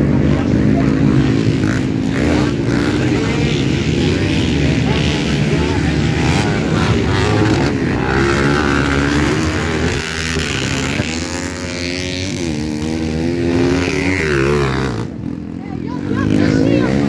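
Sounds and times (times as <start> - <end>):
motocross bike engines: 0.0 - 17.0.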